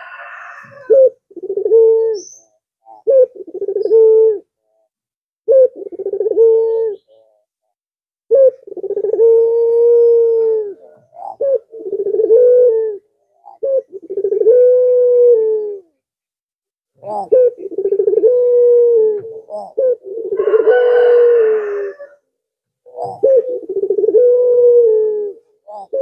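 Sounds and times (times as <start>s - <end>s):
dove cooing: 0.0s - 4.9s, 5.5s - 7.4s, 8.3s - 16.0s, 17.0s - 22.2s, 22.8s - 26.0s.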